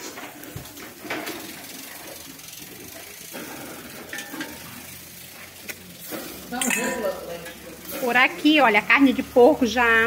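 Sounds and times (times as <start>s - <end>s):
wire grill basket clicking: 0.0s - 8.4s
meat sizzling over charcoal: 0.0s - 10.0s.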